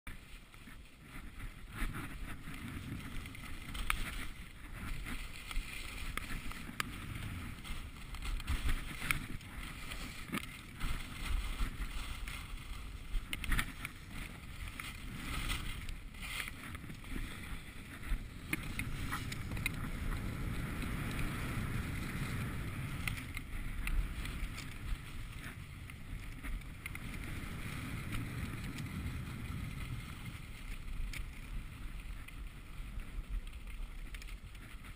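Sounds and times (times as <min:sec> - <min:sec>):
skis scraping on packed snow: 0:00.1 - 0:34.9
wind buffeting microphone: 0:00.6 - 0:33.5.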